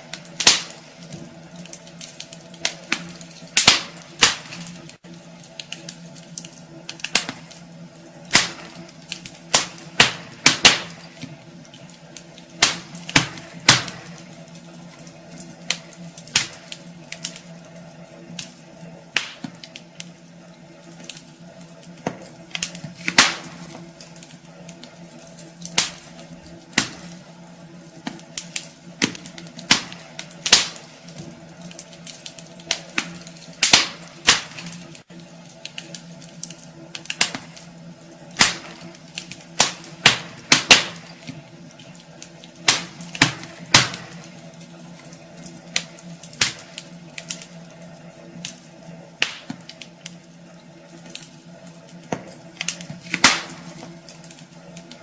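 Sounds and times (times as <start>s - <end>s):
faint hum: 0.0s - 55.0s
wood fire crackling: 0.0s - 55.0s.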